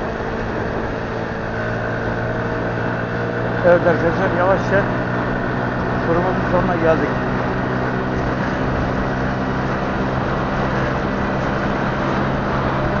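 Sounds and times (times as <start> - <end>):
car engine hum: 0.0 - 13.0
tyre and road noise: 0.0 - 13.0.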